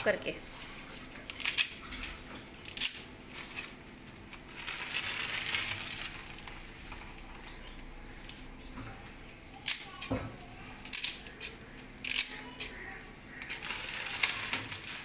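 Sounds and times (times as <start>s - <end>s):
dry spaghetti cracking: 0.5s - 8.7s, 9.3s - 15.0s.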